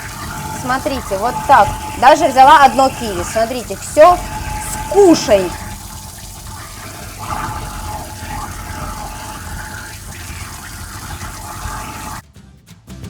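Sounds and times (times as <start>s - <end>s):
food waste disposer grinding: 0.0s - 12.2s
tap water running into sink: 0.0s - 12.2s.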